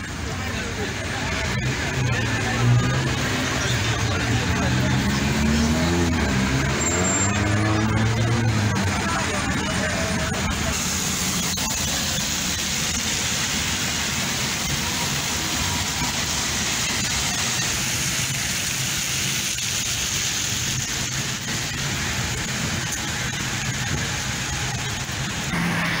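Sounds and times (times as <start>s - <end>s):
low rumble of car engines: 0.0s - 26.0s
rain hiss: 0.0s - 26.0s
tyres on wet asphalt: 0.0s - 26.0s.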